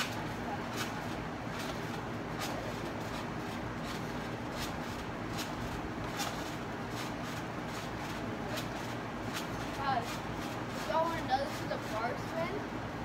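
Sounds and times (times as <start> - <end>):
trampoline springs creaking: 0.0 - 12.8.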